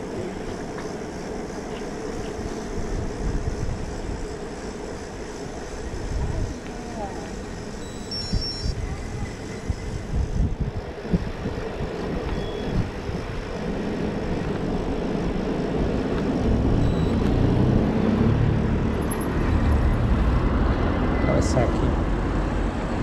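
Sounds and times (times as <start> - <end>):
bicycle road noise: 0.0 - 23.0
low wind buffets: 0.0 - 23.0
wind rush: 2.4 - 21.1.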